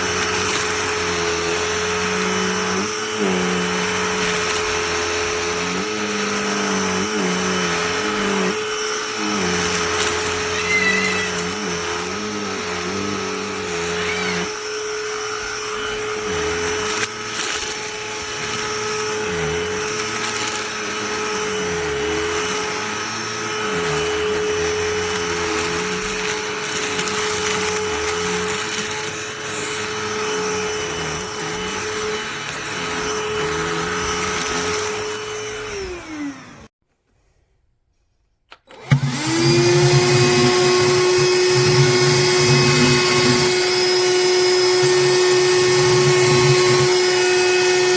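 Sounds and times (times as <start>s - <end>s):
handheld vacuum running: 0.0s - 36.8s, 38.5s - 47.9s.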